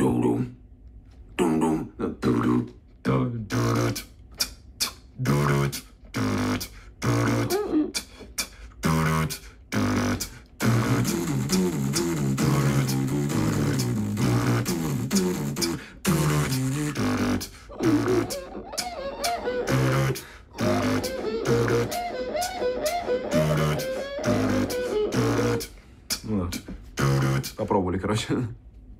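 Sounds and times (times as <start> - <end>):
beatboxing guitar riff: 1.4 - 27.8
mouth-made drum sounds: 3.5 - 27.7.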